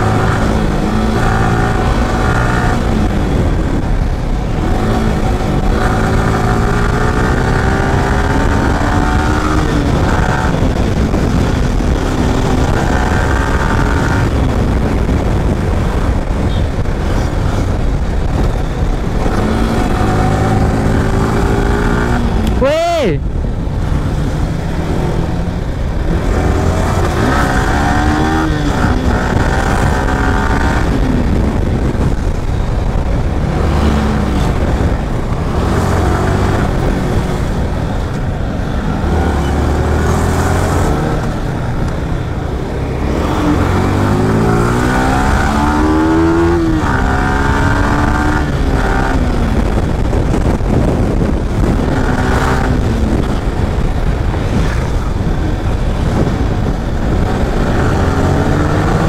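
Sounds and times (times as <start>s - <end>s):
motorcycle engine accelerating: 0.0s - 59.0s
wind rush over microphone: 0.0s - 59.0s.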